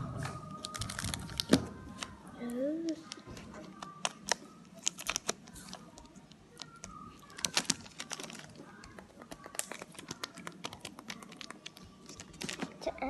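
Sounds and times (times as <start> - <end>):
foil wrapper crinkling: 0.5 - 2.1, 3.0 - 12.9.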